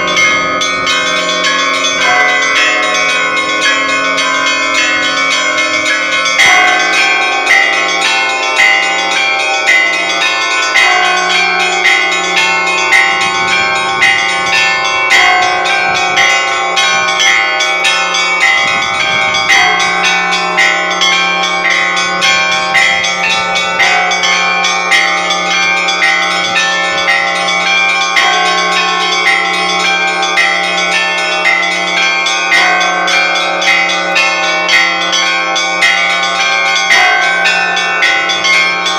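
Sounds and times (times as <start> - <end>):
large bell hum: 0.0 - 38.9
small bells ringing: 0.0 - 38.9.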